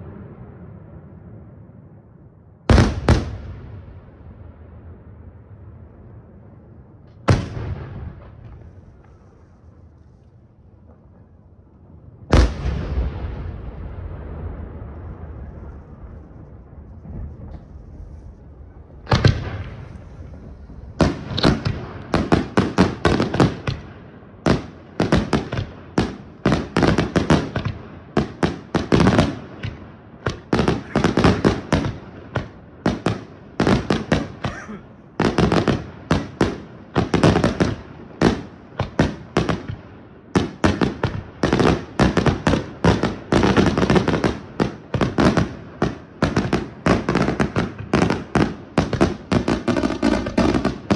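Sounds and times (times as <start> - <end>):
firework bangs: 2.7 - 6.0, 7.1 - 9.9, 12.2 - 50.9.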